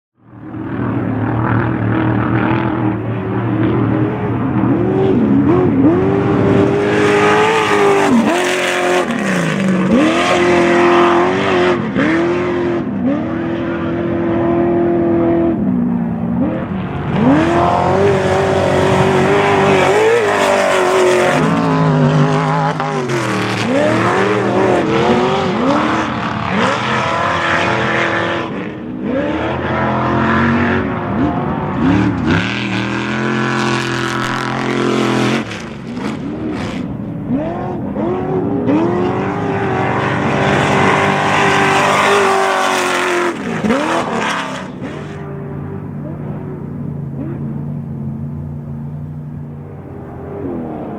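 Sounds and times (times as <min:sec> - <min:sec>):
racing buggy engine revving: 0:00.2 - 0:50.9.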